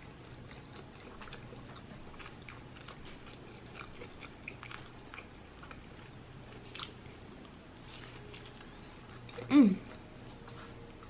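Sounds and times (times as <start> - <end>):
crunchy chewing: 0.0 - 11.0
low steady hum: 0.0 - 11.0.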